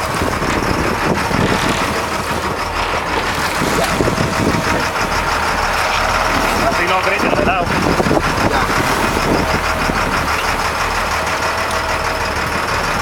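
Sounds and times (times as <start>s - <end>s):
boat engine droning: 0.0s - 13.0s
sea noise: 0.0s - 13.0s
wind: 0.0s - 13.0s.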